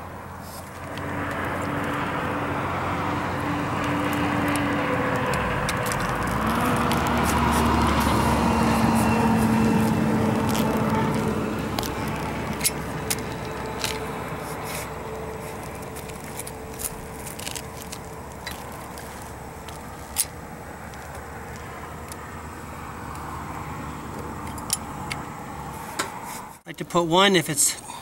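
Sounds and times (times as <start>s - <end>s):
steady rumble: 0.0s - 26.6s.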